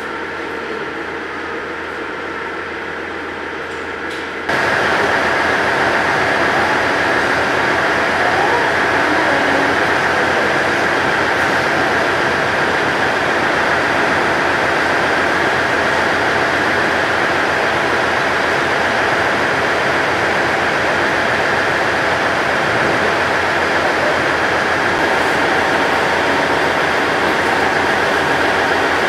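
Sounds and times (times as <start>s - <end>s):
train rushing noise: 4.5s - 29.0s.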